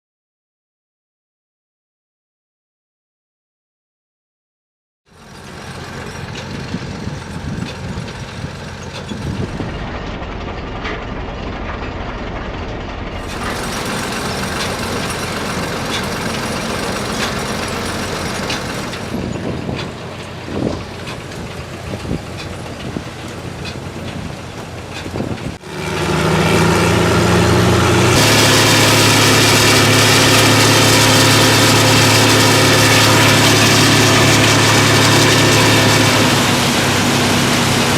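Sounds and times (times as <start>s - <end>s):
diesel equipment running: 5.1s - 37.9s
loud engine humming: 5.1s - 37.9s.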